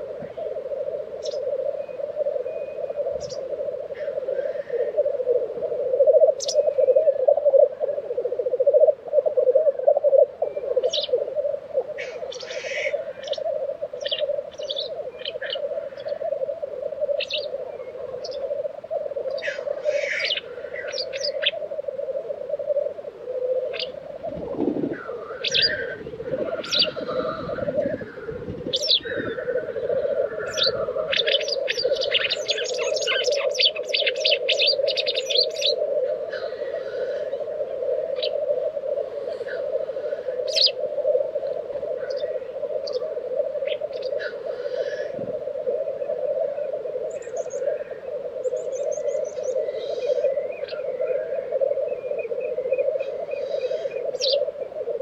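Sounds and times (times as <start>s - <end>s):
grouse bubbling call: 0.0s - 55.0s
grouse hissing: 0.0s - 55.0s.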